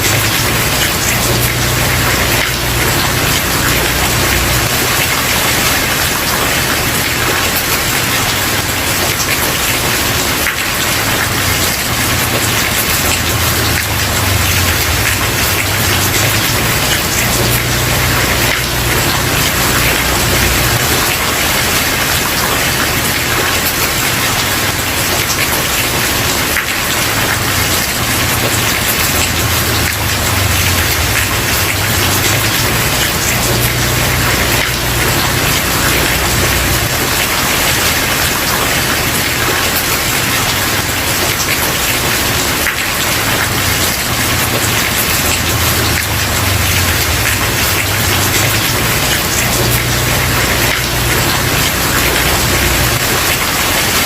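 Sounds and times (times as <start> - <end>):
heavy rain on wooden porch: 0.0 - 54.0.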